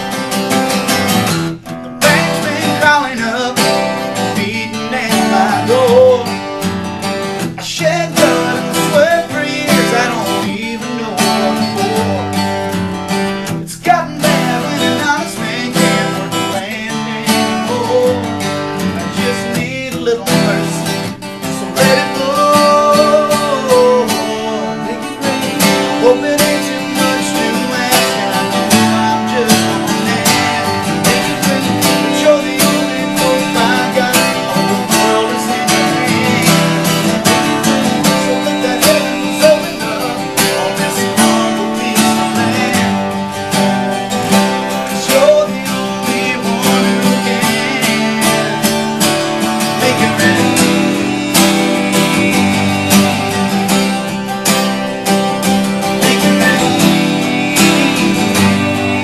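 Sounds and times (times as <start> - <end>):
strummed acoustic guitar: 0.0 - 59.0
person singing: 2.0 - 59.0.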